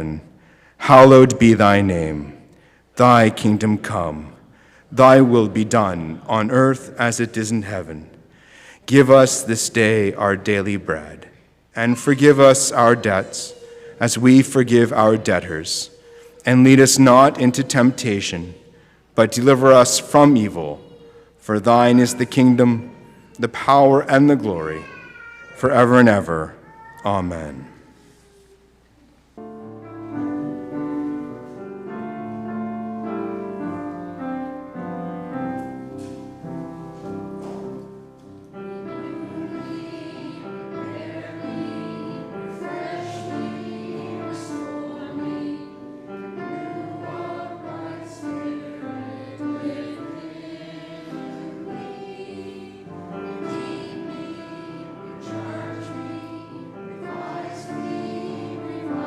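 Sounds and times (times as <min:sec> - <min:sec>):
choir singing church music: 0:00.0 - 0:28.2, 0:29.3 - 0:59.0.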